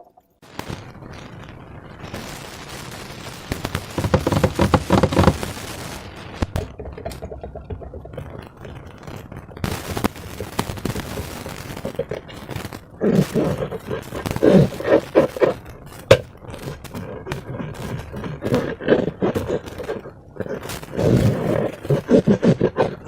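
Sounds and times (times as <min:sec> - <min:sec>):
slime crackling and popping: 0:00.5 - 0:23.0.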